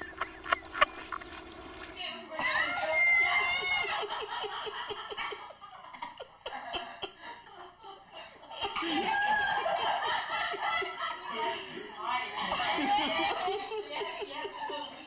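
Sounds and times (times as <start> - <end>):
people laughing: 0.0 - 1.2, 2.4 - 15.0.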